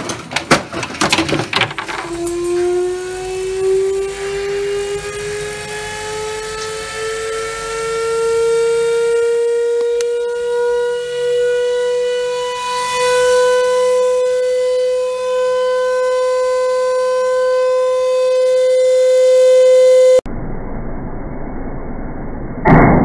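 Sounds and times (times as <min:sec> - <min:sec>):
electric motor whining: 0:01.7 - 0:20.2.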